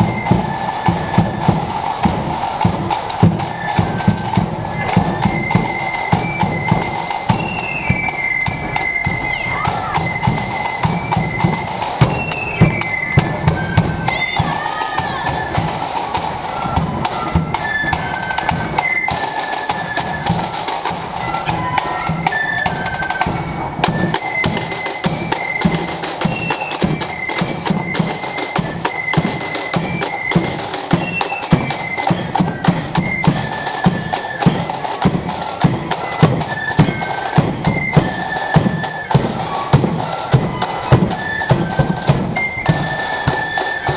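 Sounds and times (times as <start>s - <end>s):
drum beats: 0.0s - 43.9s
shrill flute melody: 0.0s - 43.9s.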